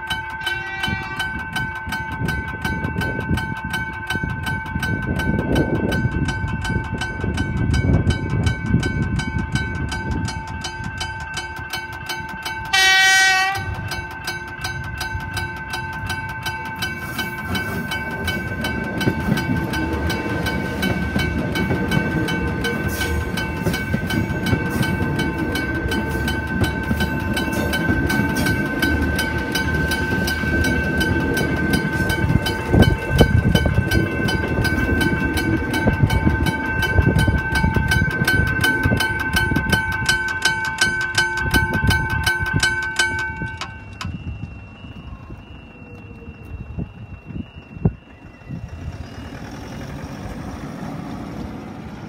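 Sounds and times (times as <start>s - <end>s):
level crossing bell ringing: 0.0s - 44.1s
passing train rumble: 0.0s - 52.0s
steady high tone: 0.0s - 52.0s.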